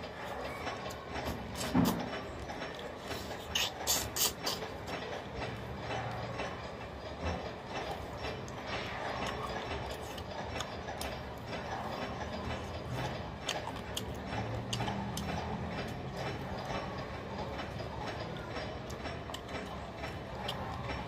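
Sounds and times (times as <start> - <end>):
chewing and lip-smacking: 0.8 - 5.0, 7.8 - 21.0.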